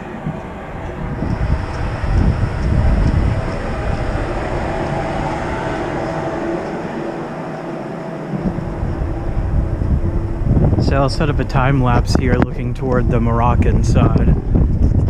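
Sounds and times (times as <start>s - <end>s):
ship machinery hum: 0.0s - 15.0s
wind buffeting microphone: 0.0s - 15.0s.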